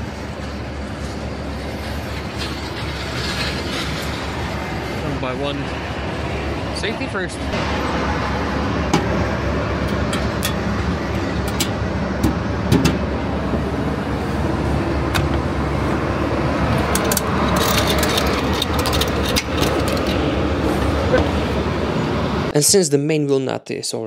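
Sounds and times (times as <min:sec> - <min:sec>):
machinery and engine noise: 0:00.0 - 0:22.5.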